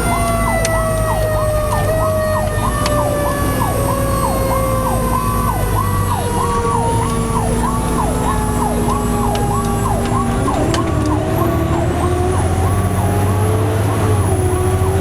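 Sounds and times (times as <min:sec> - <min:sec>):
electronic siren wailing: 0:00.0 - 0:15.0
slow gliding siren: 0:00.0 - 0:15.0
truck engine drone: 0:00.0 - 0:15.0.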